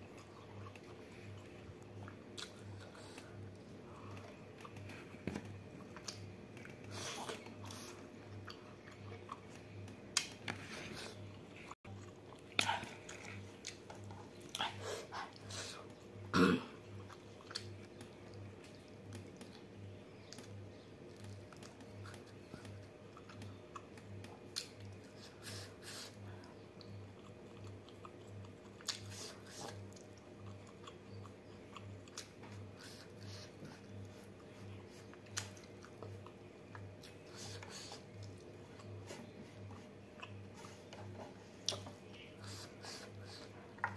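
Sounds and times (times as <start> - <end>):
person chewing food: 0.0 - 16.2, 16.8 - 43.9.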